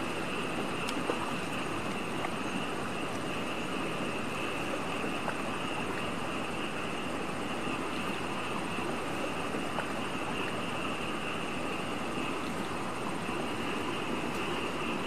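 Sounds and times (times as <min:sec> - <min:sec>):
wading in shallow water: 0:00.0 - 0:15.0.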